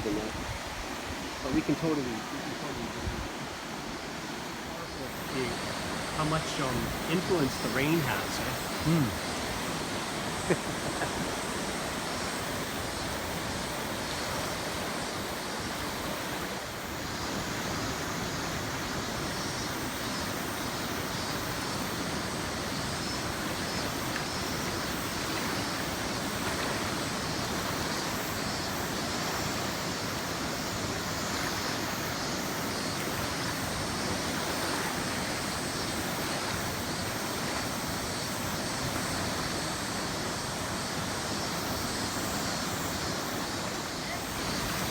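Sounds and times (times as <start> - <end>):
river rushing over rapids: 0.0 - 44.9.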